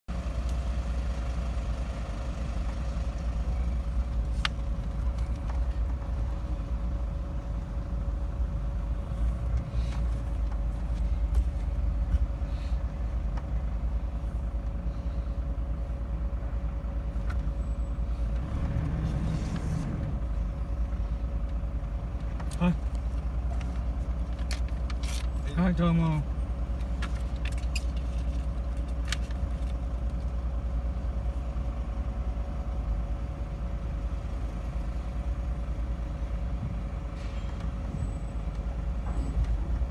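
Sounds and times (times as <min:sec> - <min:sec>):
camper van rumbling: 0:00.1 - 0:39.9
constant hum: 0:00.1 - 0:39.9.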